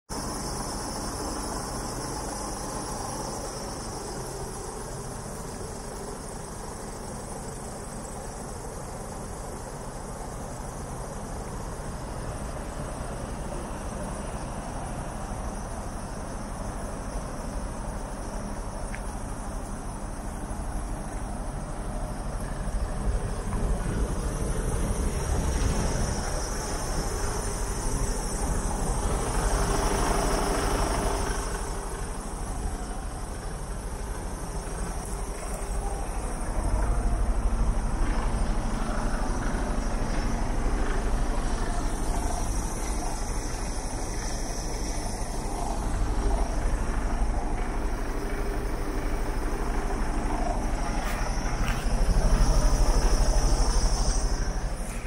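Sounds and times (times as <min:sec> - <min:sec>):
diesel engine idling: 0:00.1 - 0:55.0
high-pitched whine: 0:00.1 - 0:55.0.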